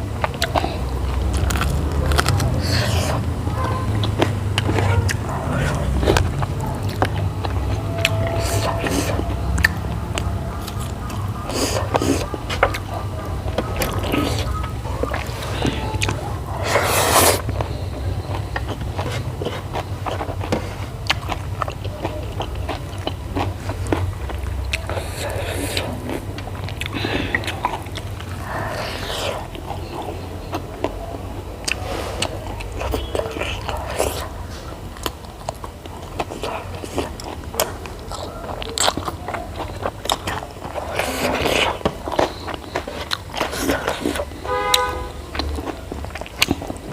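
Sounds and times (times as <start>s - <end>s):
steady low hum: 0.0s - 46.9s
wet chewing clicks: 0.0s - 46.9s
crunchy bite: 0.2s - 31.0s, 35.0s - 46.8s.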